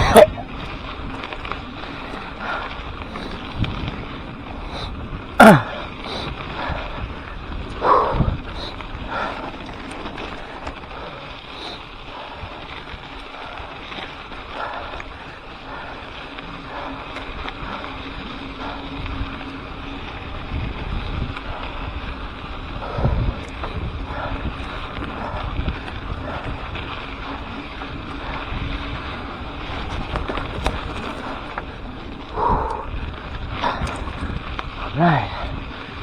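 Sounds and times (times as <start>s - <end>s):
wind rushing over microphone: 0.0s - 13.8s, 14.5s - 36.0s
bike rattles: 0.0s - 36.0s
bike tyres rumbling: 0.0s - 36.0s.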